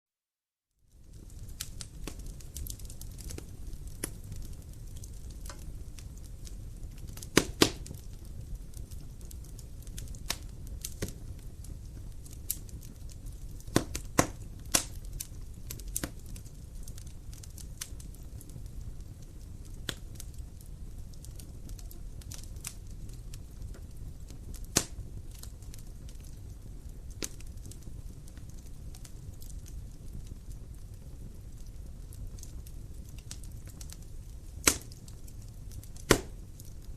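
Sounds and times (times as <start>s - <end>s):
low rumble of flames: 0.8s - 36.9s
wood fire crackling: 0.8s - 36.9s
sharp pops of burning wood: 1.0s - 18.8s, 19.6s - 20.4s, 21.2s - 36.9s.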